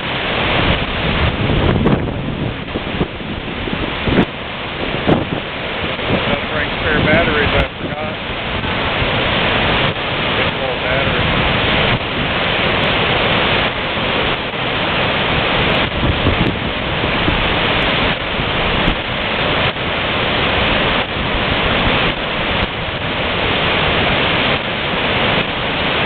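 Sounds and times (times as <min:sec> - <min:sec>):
waterfall rushing over rock: 0:00.0 - 0:26.0.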